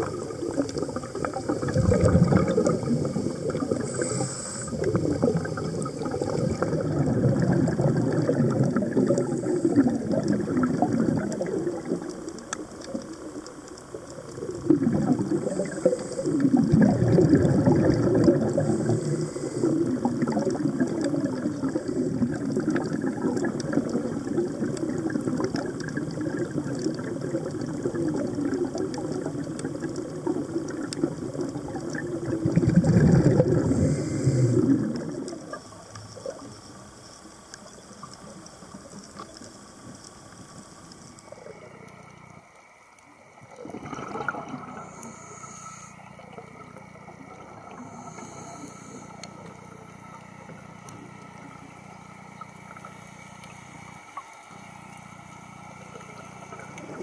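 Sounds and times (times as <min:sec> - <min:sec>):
regulator bubbling underwater: 0:00.0 - 0:57.0.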